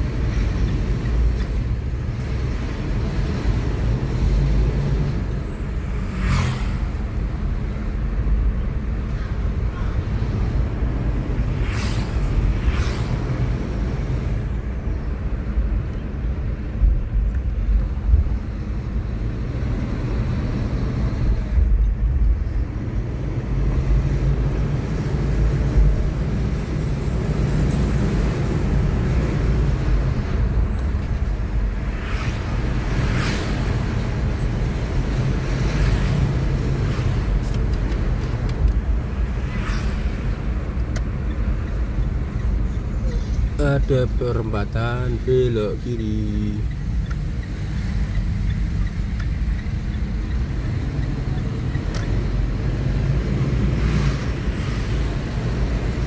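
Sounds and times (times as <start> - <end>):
passing traffic swishes: 0.0 - 56.0
car interior road rumble: 6.8 - 56.0.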